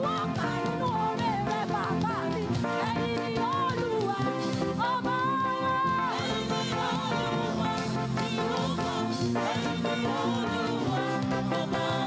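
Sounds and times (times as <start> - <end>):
live church band music: 0.0 - 12.0
people singing: 0.0 - 12.0.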